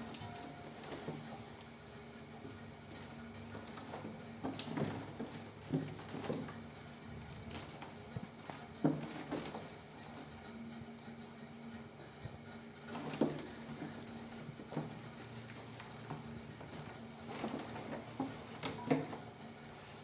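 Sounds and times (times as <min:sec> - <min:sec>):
kittens playing knocks and scuffs: 0:02.4 - 0:11.4, 0:12.2 - 0:20.0.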